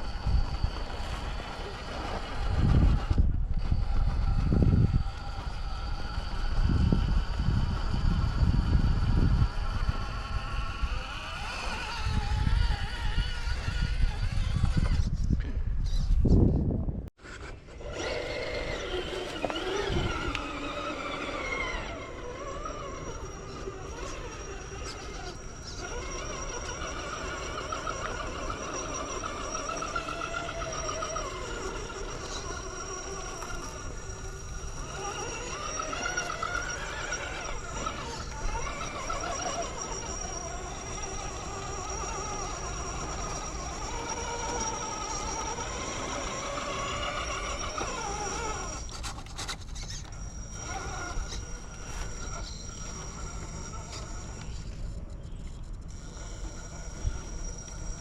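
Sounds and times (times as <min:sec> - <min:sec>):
high-pitched whine: 0:00.0 - 0:14.8, 0:17.6 - 0:58.0
toy car electric motor whining: 0:00.0 - 0:16.2, 0:17.2 - 0:58.0.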